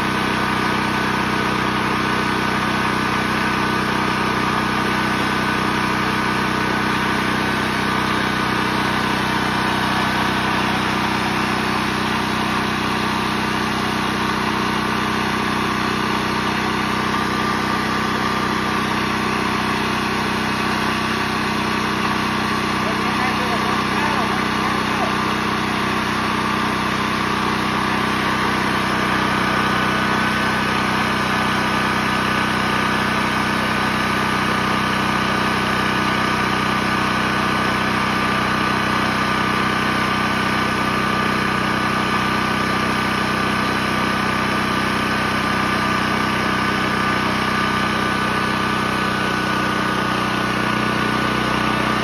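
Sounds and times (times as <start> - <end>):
generator engine running: 0.0 - 52.0.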